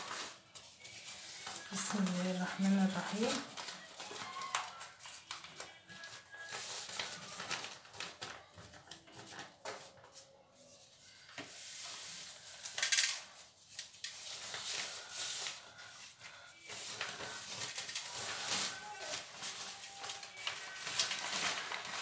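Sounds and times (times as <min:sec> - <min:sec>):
pastry sheets rustling and crinkling: 0:00.0 - 0:22.0.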